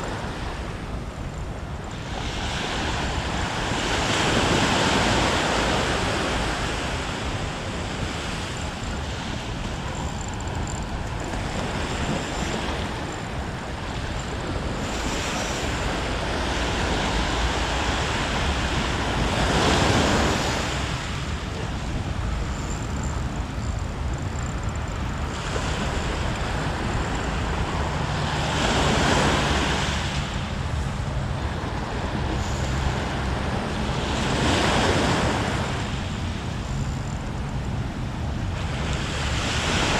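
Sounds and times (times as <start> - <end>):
sea waves breaking on shore: 0.0 - 39.9
wind buffeting microphone: 0.0 - 39.9.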